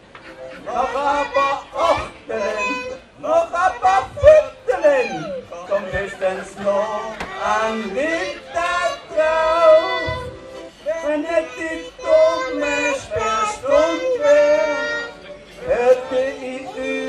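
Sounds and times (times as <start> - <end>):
voices singing: 0.3 - 17.0.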